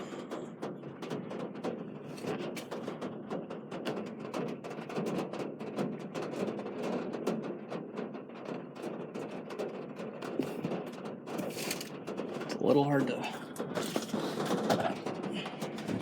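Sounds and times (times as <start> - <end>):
rain drops tapping hard surface: 0.0 - 16.0.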